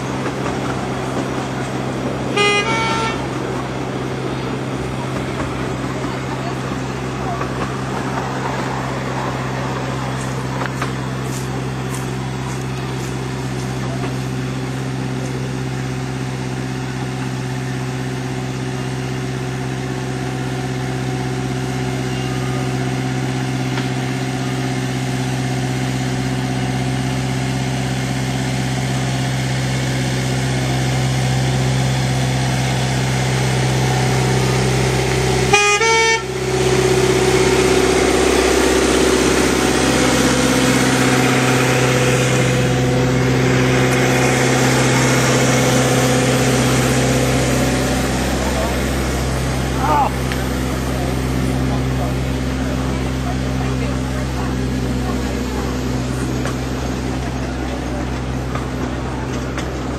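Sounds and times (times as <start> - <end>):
miniature locomotive engine running: 0.0 - 59.9.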